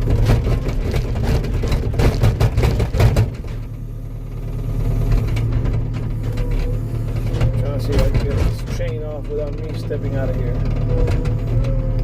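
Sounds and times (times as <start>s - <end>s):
metallic clanks and rattles: 0.0s - 3.7s, 5.1s - 12.0s
tracked machine engine working hard: 0.0s - 12.0s.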